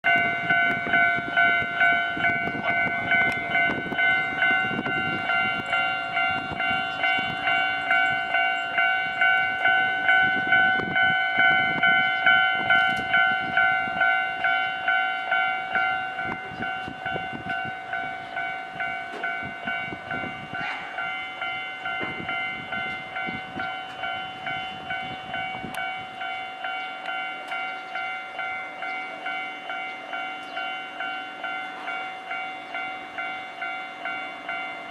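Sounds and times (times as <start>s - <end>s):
level-crossing alarm ringing: 0.0s - 34.9s
train rumbling over rails: 0.0s - 34.9s.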